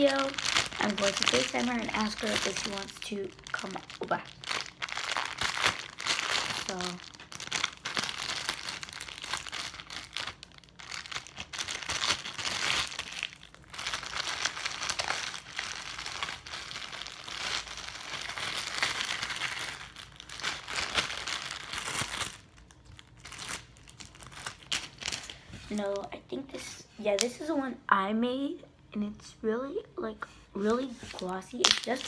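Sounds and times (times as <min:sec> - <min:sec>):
plastic bag crinkling: 0:00.0 - 0:27.5, 0:30.7 - 0:32.0.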